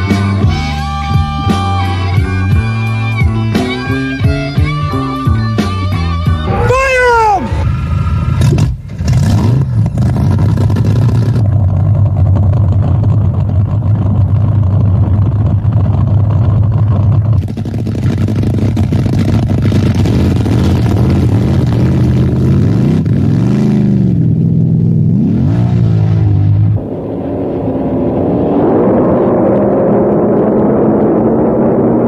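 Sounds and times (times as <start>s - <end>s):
boat engine idling and revving: 0.0s - 32.0s.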